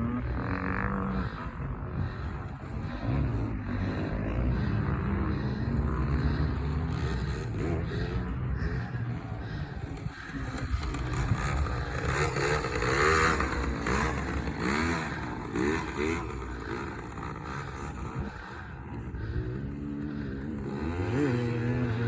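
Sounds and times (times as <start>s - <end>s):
mini dirt bike engine revving: 0.0s - 22.0s.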